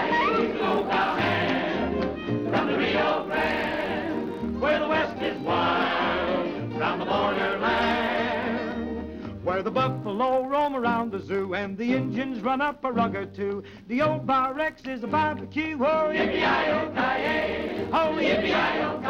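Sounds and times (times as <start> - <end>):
ensemble voices singing: 0.0 - 13.2, 15.0 - 19.0
swing band music: 0.0 - 19.0.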